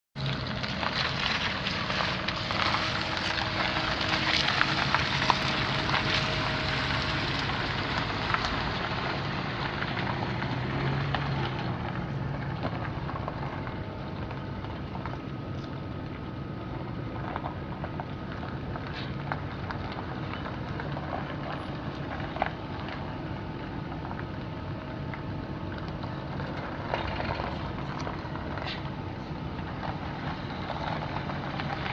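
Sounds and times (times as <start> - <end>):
truck engine idling: 0.2 - 31.9.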